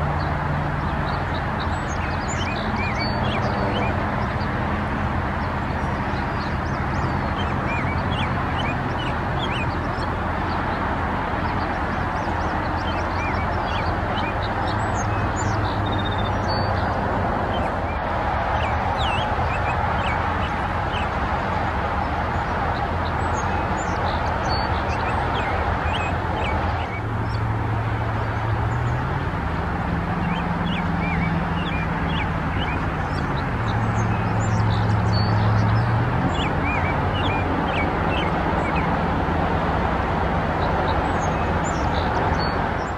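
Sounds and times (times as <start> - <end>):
small birds chirping: 0.0 - 4.6, 5.2 - 21.3, 22.0 - 29.0, 30.1 - 42.9.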